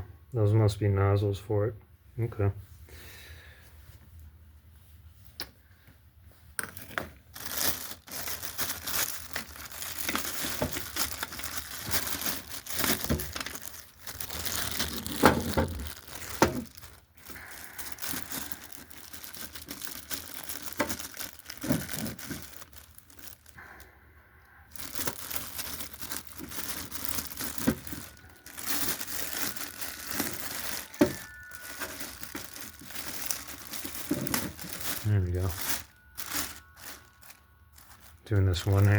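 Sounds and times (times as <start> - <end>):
packaging crinkling and tearing: 6.7 - 23.9, 24.7 - 38.9.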